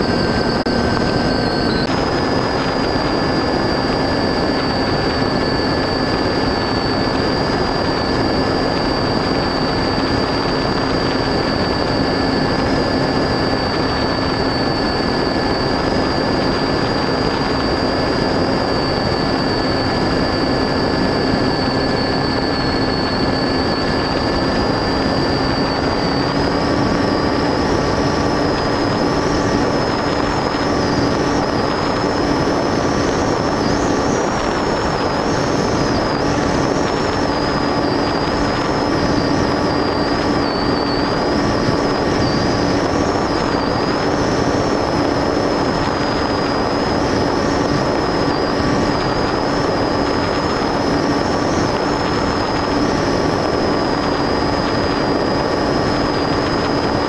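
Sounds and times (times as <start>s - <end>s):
model aircraft motor whining: 0.0s - 57.0s
wind noise: 0.0s - 57.0s.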